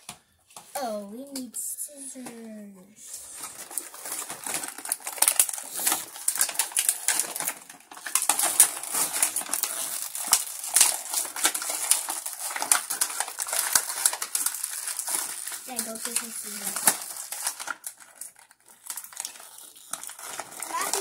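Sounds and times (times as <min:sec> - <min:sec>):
plastic packaging crinkling: 0:03.1 - 0:21.0.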